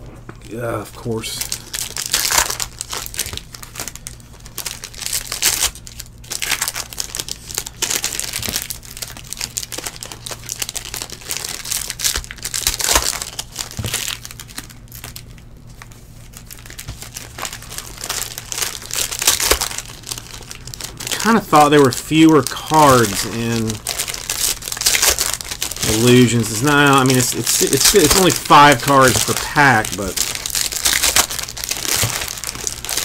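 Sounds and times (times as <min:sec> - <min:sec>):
foil wrappers crinkling and tearing: 0:00.8 - 0:33.0.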